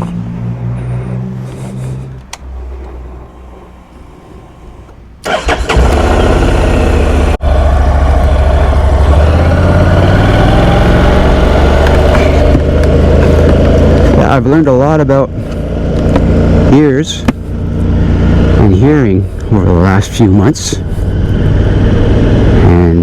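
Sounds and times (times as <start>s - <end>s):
motorcycle engine drone: 0.0s - 23.0s
wind and road noise: 0.0s - 23.0s.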